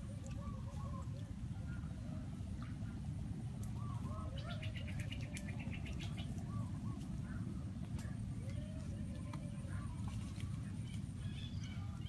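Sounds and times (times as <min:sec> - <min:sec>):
birds chirping: 0:00.0 - 0:12.0
low background noise: 0:00.0 - 0:12.0.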